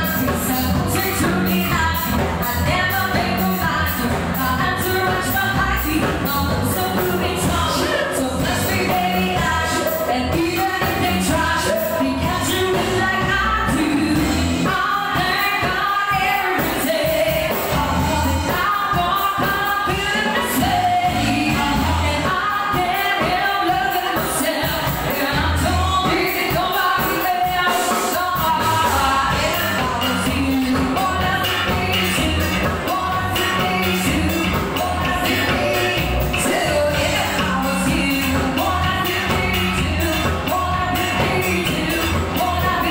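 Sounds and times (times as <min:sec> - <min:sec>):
live band playing pop song: 0:00.0 - 0:42.9
people singing: 0:00.0 - 0:42.9.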